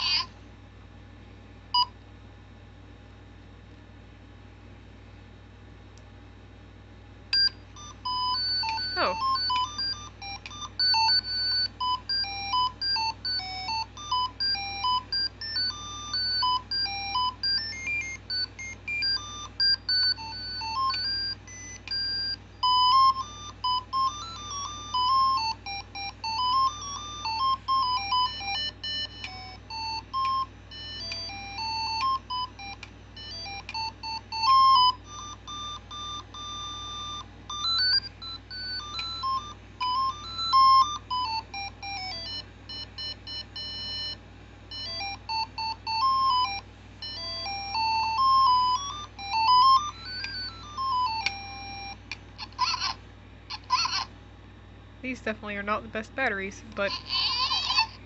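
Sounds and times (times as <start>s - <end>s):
toy playing electronic beep tune: 7.4s - 53.0s, 56.8s - 58.0s.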